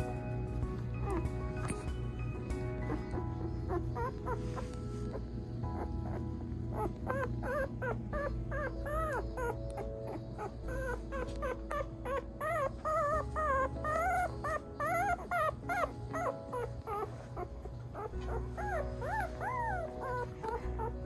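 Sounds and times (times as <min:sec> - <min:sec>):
puppies squeaking and whimpering: 0:00.0 - 0:21.0.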